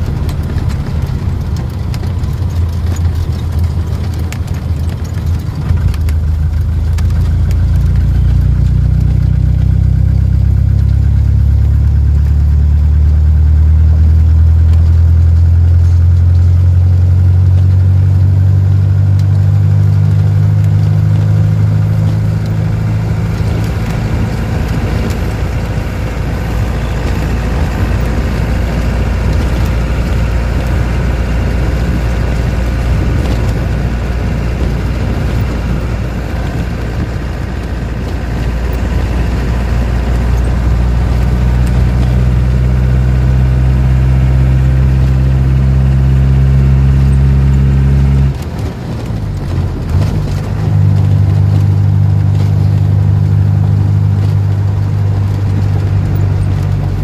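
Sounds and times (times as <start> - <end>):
bus engine running: 0.0 - 57.0
tyre and wind noise: 0.0 - 57.0.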